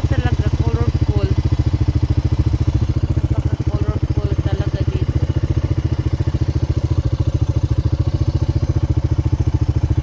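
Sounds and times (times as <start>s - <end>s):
car rumbling from inside: 0.0s - 9.1s.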